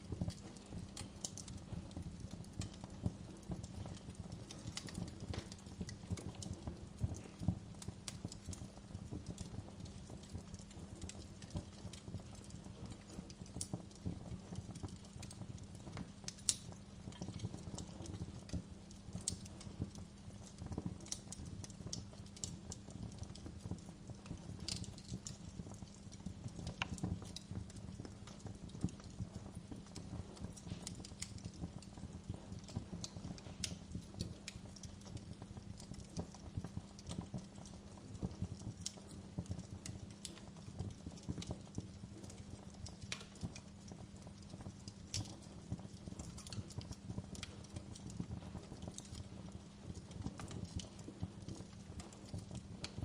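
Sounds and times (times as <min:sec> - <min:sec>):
fire crackling and popping: 0:00.0 - 0:53.0
fire flames rumbling: 0:00.0 - 0:53.0.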